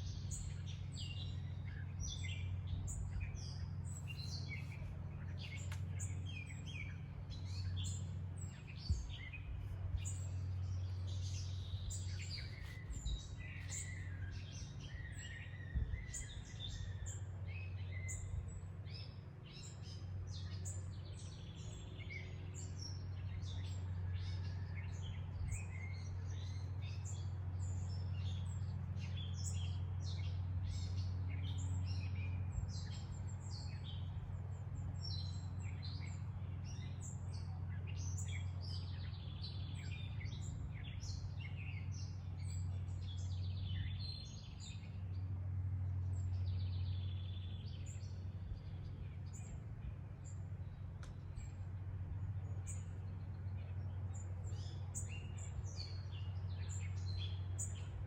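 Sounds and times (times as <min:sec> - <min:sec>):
songbirds chirping: 0:00.0 - 0:58.0
steady low hum: 0:00.0 - 0:58.0.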